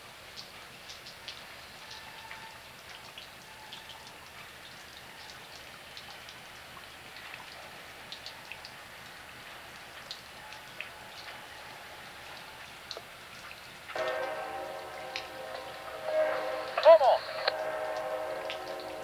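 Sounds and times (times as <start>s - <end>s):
rain drips ticking: 0.0s - 19.0s
steady rain hiss: 0.0s - 19.0s.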